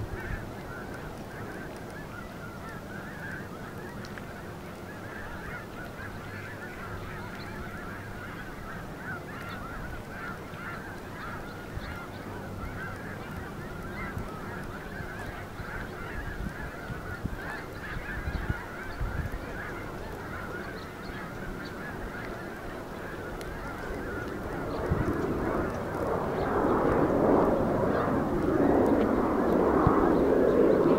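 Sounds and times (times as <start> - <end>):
flock of geese honking: 0.0 - 30.9.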